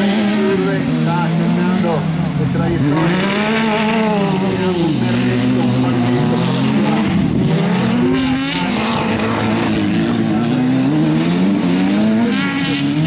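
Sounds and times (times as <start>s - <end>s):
racing buggy engines: 0.0s - 13.0s.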